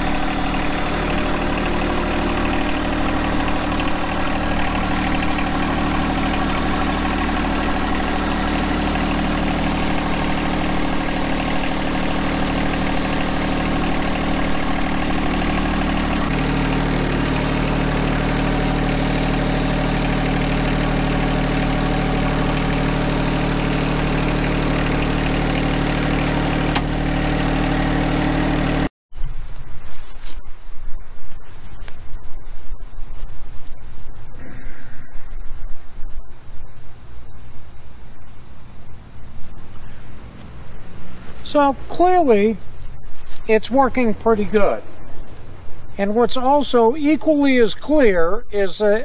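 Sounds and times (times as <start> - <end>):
crickets chirping: 0.0 - 26.4, 29.1 - 49.0
tractor diesel engine running: 0.0 - 29.4, 31.9 - 49.0.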